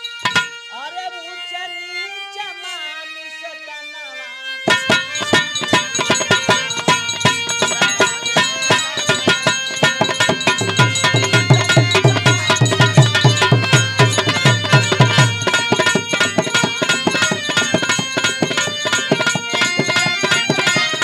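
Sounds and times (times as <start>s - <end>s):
dholak drum rhythm: 0.0s - 1.0s, 4.6s - 21.0s
harmonium chords: 0.0s - 21.0s.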